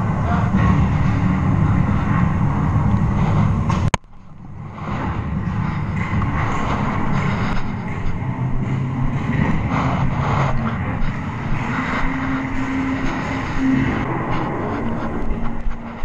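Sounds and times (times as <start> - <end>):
camera rumble and rustle: 0.0 - 16.0.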